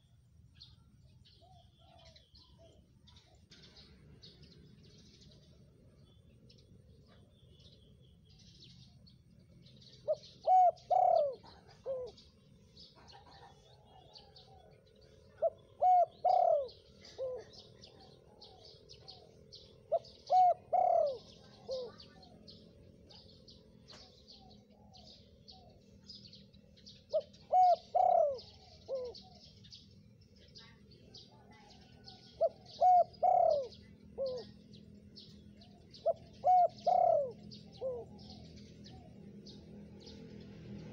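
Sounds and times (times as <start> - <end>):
dove cooing: 0.0 - 5.6, 8.7 - 29.9, 30.6 - 40.1
small birds chirping: 0.0 - 40.9.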